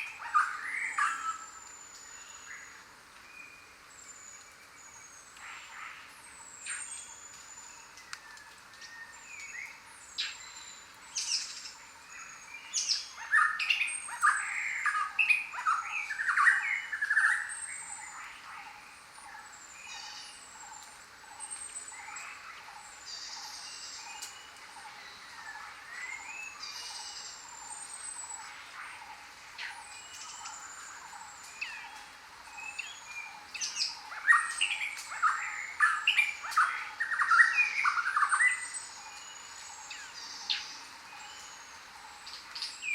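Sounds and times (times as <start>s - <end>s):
jungle birds chirping: 0.0s - 42.9s.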